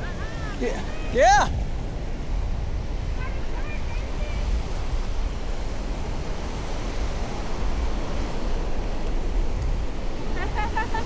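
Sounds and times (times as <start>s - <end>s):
surf breaking on a beach: 0.0s - 11.0s
wind rumbling on microphone: 0.0s - 11.0s.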